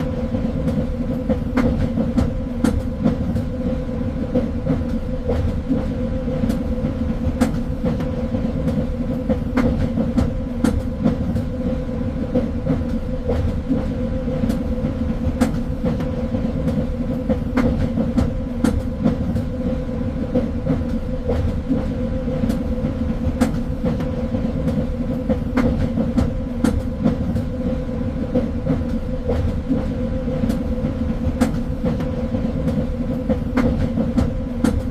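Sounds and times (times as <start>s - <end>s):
train rumbling along track: 0.0s - 34.9s
wheels clicking on rails: 0.0s - 34.9s.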